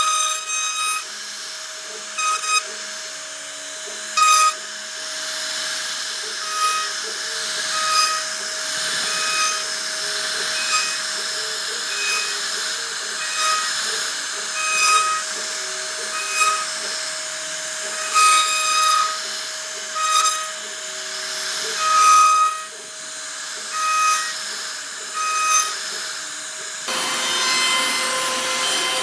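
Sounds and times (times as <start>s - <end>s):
router spindle whining carving wood: 0.0s - 29.0s.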